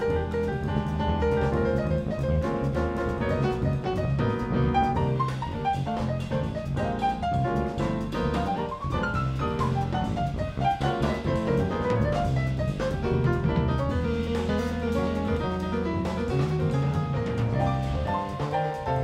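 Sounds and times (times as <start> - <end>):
bass: 0.0 - 19.0
piano solo: 0.0 - 19.0.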